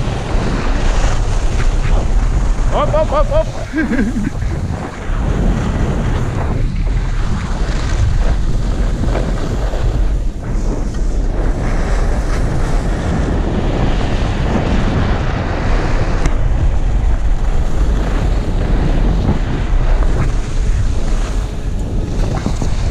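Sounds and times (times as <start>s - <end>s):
skis scraping on packed snow: 0.0s - 13.8s, 17.5s - 22.9s
wind buffeting microphone: 0.0s - 22.9s.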